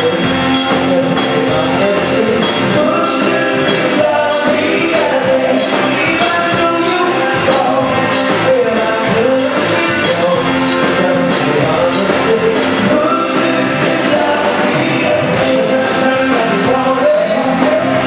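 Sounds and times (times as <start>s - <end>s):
drums steady beat: 0.0s - 18.0s
live band playing: 0.0s - 18.0s
person singing: 0.0s - 18.0s.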